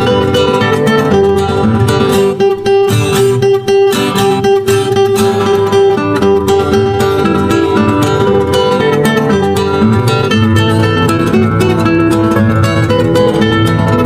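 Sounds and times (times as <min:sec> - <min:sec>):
plucked acoustic guitar music: 0:00.0 - 0:14.0.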